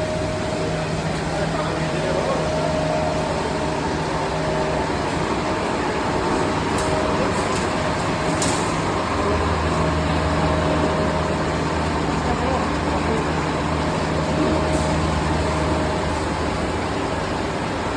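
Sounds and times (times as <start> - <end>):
machinery humming: 0.0 - 17.9.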